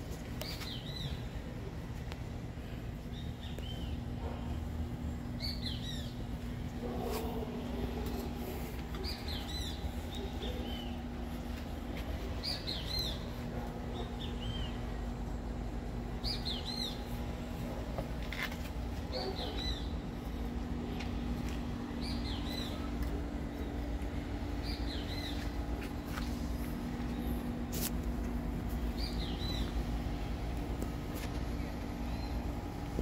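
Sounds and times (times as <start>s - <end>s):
continuous low rumble: 0.0s - 33.0s
steady low hum: 0.0s - 33.0s
songbird singing: 3.0s - 17.8s, 19.1s - 27.6s, 28.2s - 33.0s.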